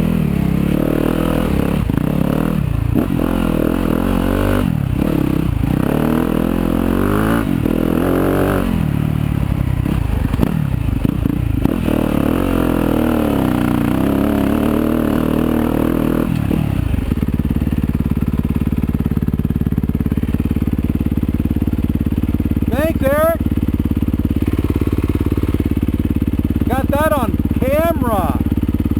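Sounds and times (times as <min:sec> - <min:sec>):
dirt bike engine revving: 0:00.0 - 0:19.0, 0:20.3 - 0:28.9
dirt bike engine idling: 0:00.0 - 0:28.9.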